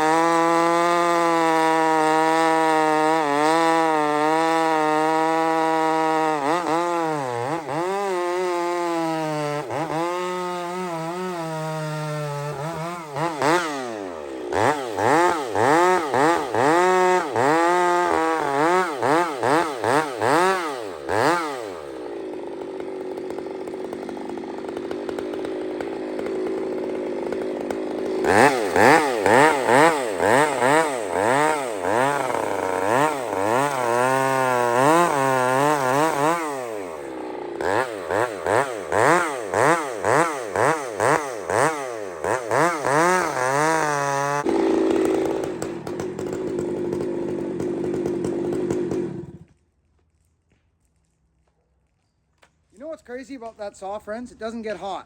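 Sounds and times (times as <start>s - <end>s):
chainsaw revving: 0.0s - 49.6s.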